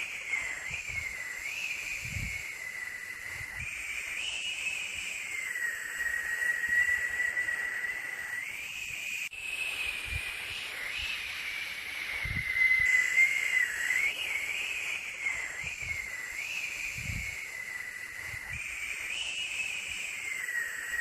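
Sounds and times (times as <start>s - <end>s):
wavering whistle: 0.0s - 21.0s
white noise hiss: 0.0s - 21.0s.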